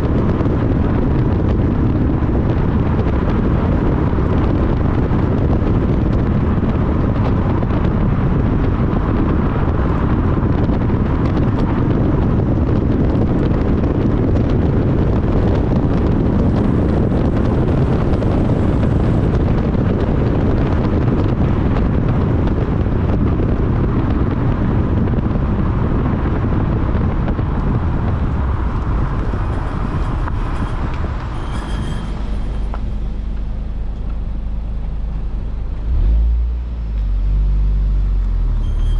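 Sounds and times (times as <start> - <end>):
tyre and wind noise: 0.0 - 38.9.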